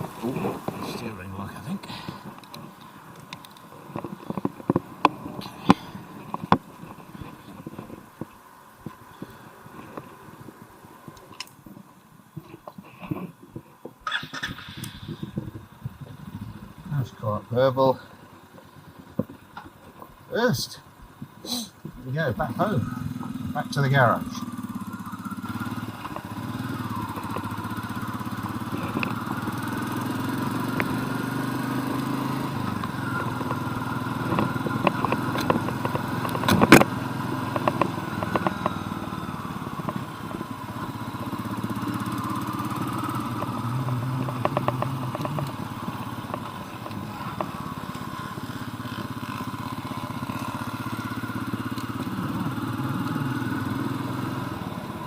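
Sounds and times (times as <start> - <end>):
motorcycle engine revving: 0.0 - 7.8, 14.0 - 20.0, 22.0 - 55.0.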